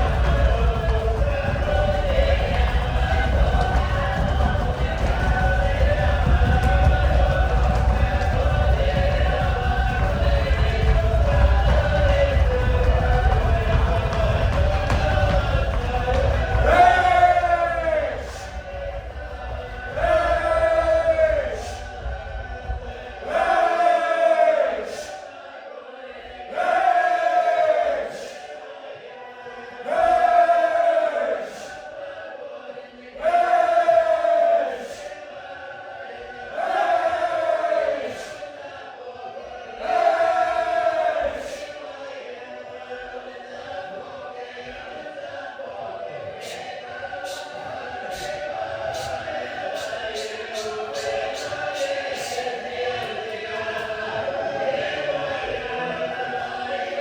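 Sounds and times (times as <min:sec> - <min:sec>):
group chanting: 0:00.0 - 0:57.0
voices singing held chord: 0:00.0 - 0:57.0.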